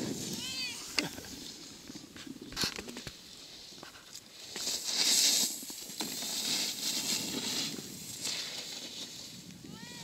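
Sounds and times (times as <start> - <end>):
snowboard scraping across snow: 0.0 - 10.0.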